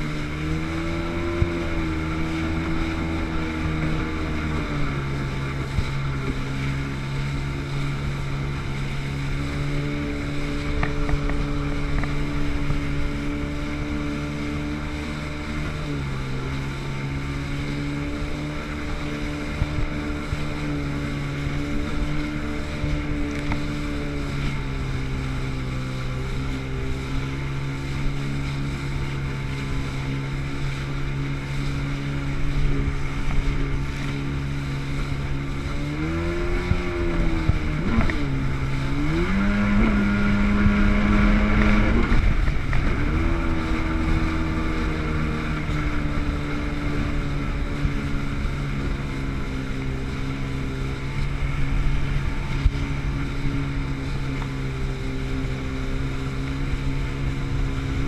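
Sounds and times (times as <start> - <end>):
jet ski engine revving: 0.0 - 58.0.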